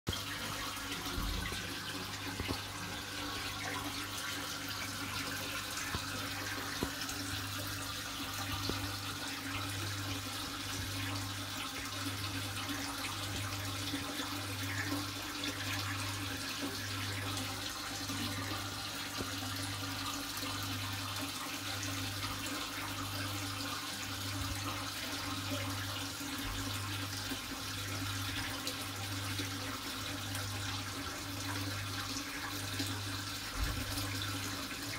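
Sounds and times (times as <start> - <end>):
aquarium water bubbling: 0.1 - 34.9.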